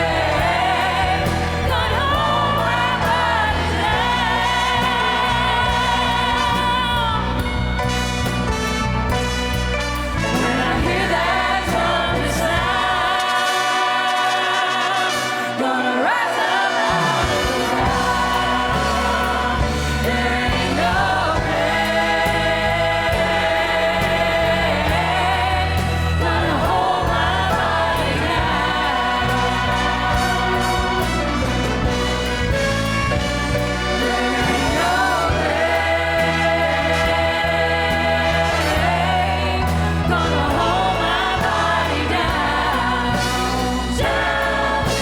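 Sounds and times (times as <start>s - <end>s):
choir singing gospel song: 0.0s - 45.0s
orchestra accompaniment: 0.0s - 45.0s.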